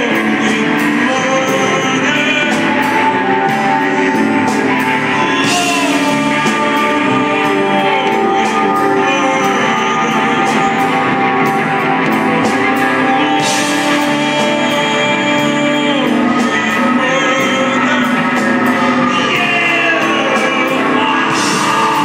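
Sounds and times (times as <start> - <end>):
drums: 0.0 - 22.0
electric guitar: 0.0 - 22.0
keyboard: 0.0 - 22.0
man singing: 0.0 - 22.0.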